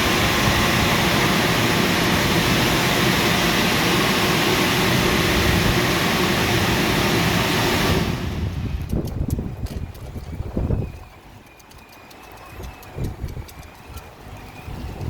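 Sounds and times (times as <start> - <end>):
drying blowers running: 0.0 - 15.0.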